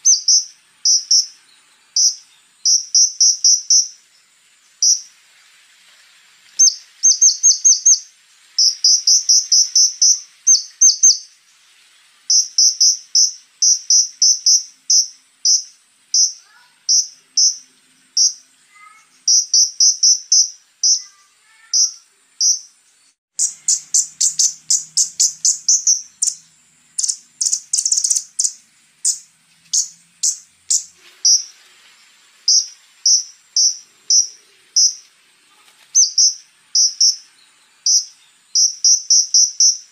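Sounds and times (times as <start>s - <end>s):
bird chirping: 0.0s - 5.2s, 6.4s - 39.9s.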